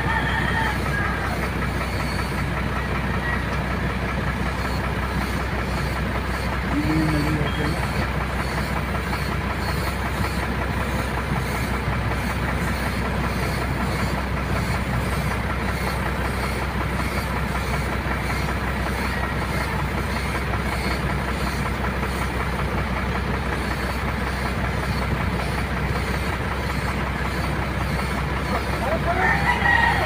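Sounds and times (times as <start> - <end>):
air compressor humming: 0.0 - 30.0.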